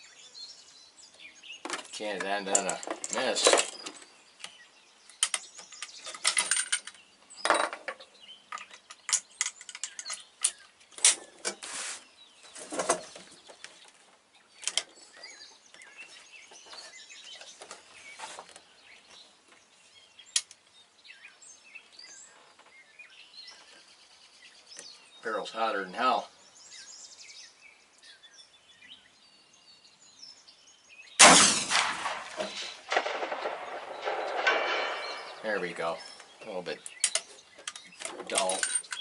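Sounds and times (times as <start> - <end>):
birds chirping faintly: 0.0 - 39.0.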